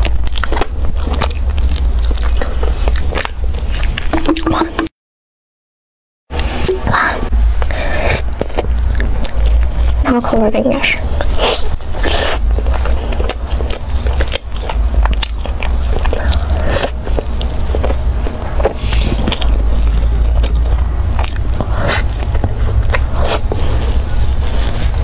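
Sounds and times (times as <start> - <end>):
biting and chewing pastry: 0.0 - 4.5, 7.6 - 10.4, 11.0 - 25.0.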